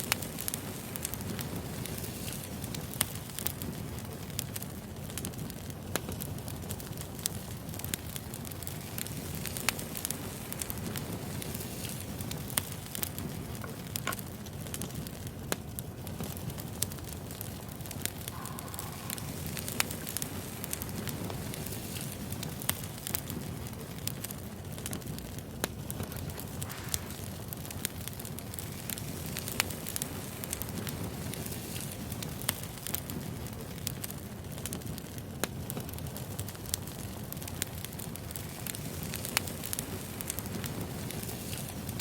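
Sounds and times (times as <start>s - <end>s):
burning logs crackling and popping: 0.0s - 42.0s
rush of fire flames: 0.0s - 42.0s.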